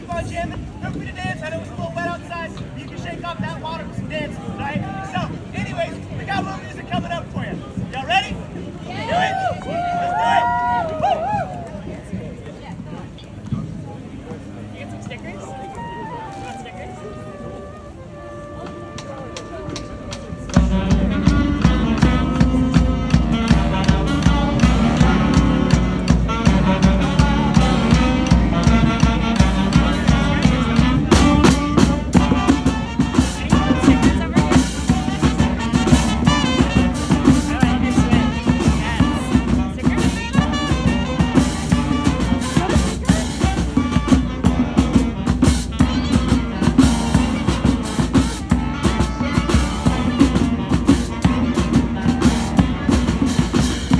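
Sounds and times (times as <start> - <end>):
street band playing: 0.0 - 53.9.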